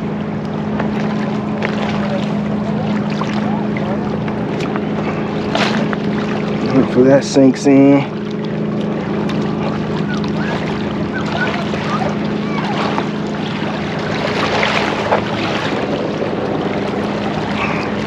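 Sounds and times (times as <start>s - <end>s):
steady low hum: 0.0s - 18.0s
water lapping at shore: 0.0s - 18.0s.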